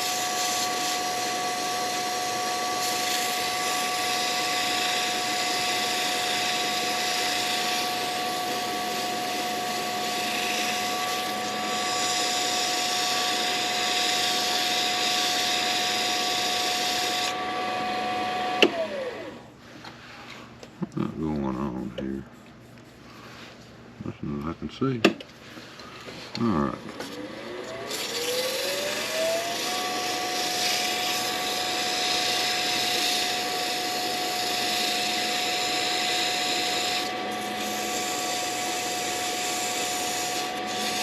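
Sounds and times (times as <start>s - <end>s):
lathe motor whining: 0.0s - 19.5s, 26.5s - 41.0s.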